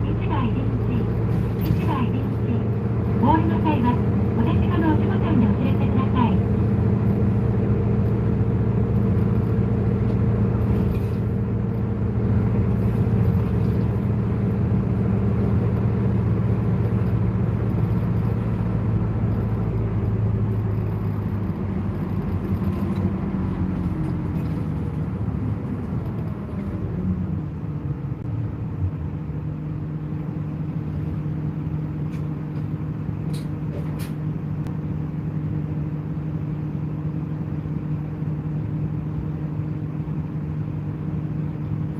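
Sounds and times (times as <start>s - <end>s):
bus engine drone: 0.0s - 41.9s.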